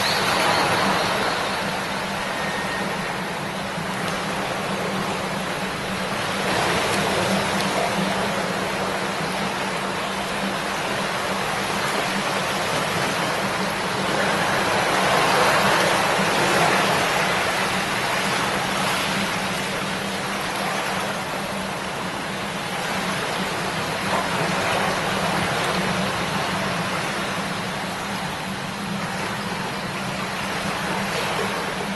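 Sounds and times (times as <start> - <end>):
stream babbling and rushing: 0.0 - 31.9.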